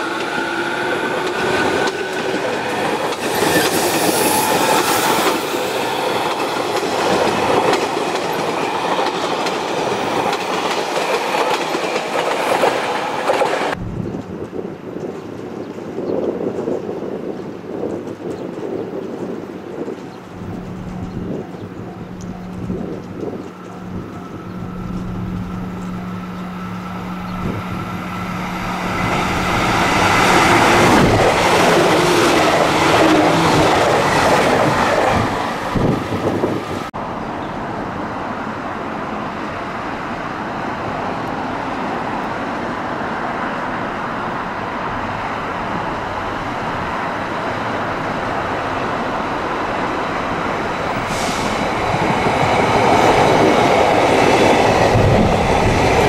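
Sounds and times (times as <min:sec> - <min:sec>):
train pulling into station: 0:00.0 - 0:56.0
train running by: 0:00.0 - 0:56.0.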